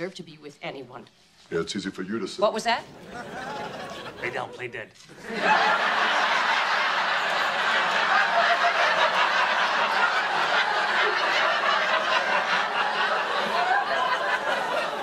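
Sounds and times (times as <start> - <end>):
audience laughing: 2.9 - 15.0.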